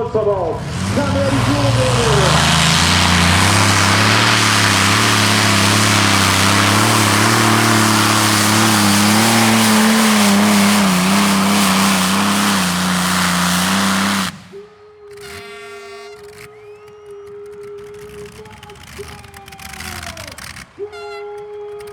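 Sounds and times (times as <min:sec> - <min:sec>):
aircraft engines running flat out: 0:00.0 - 0:15.4, 0:16.2 - 0:20.8.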